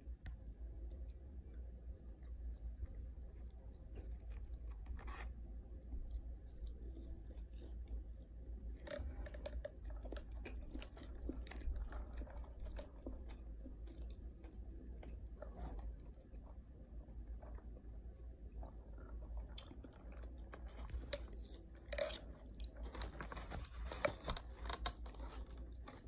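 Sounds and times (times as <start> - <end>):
chewing crunchy food: 0.0 - 26.0.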